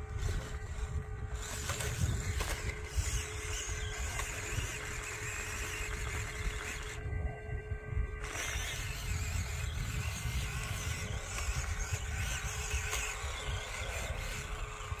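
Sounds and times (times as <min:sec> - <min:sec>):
small rc truck motor running: 0:00.0 - 0:15.0
wind rumbling on microphone: 0:00.0 - 0:15.0.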